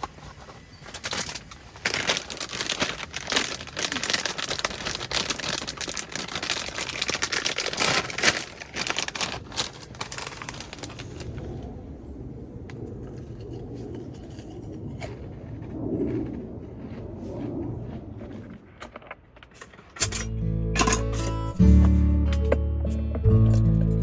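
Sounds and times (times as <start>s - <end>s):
crinkling and rustling: 0.0s - 11.8s, 12.8s - 22.6s.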